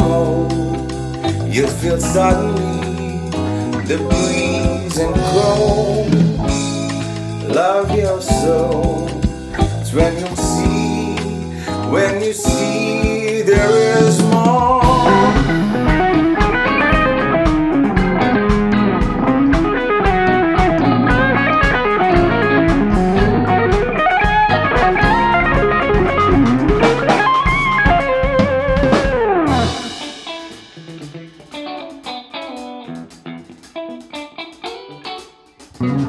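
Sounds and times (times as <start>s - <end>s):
electric guitar lines: 0.0s - 36.0s
funk band playing: 0.0s - 36.0s.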